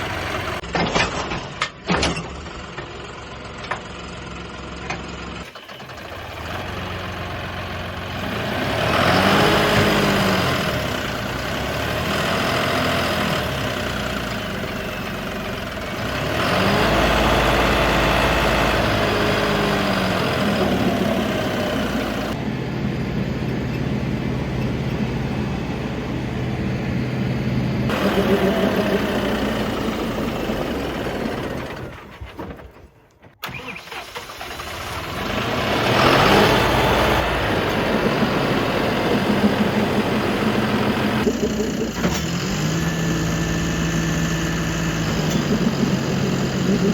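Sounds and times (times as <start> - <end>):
diesel tractor engine revving: 0.0 - 1.2, 5.4 - 46.9.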